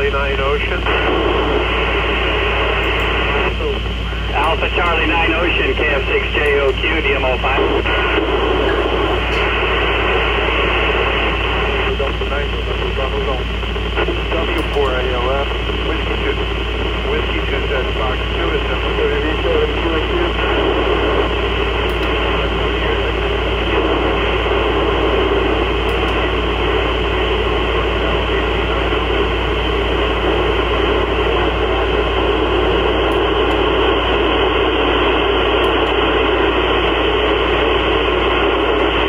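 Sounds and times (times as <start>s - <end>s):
radio receiver static hiss: 0.0s - 39.0s.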